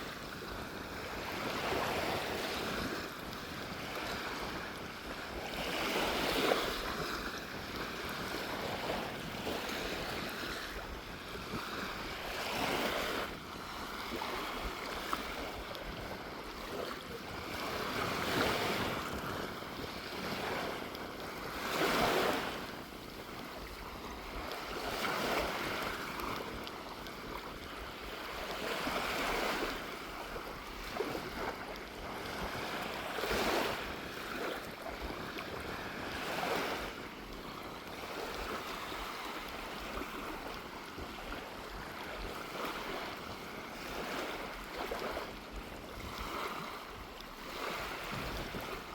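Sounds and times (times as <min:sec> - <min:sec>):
small waves breaking on beach: 0:00.0 - 0:48.9
wind rumbling on microphone: 0:00.0 - 0:48.9.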